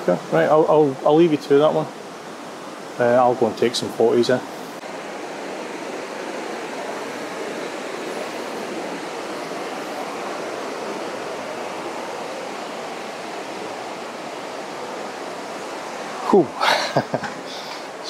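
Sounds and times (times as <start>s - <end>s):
white water rushing over rocks: 0.0s - 18.0s.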